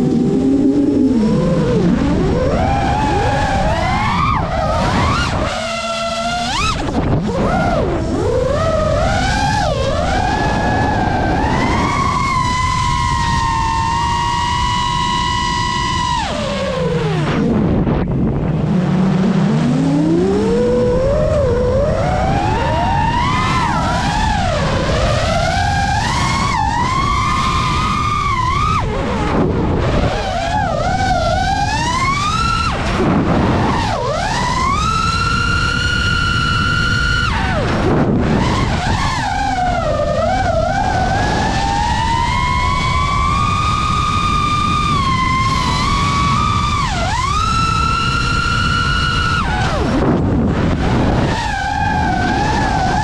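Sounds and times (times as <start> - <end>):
quadcopter motors whining: 0.0 - 53.0.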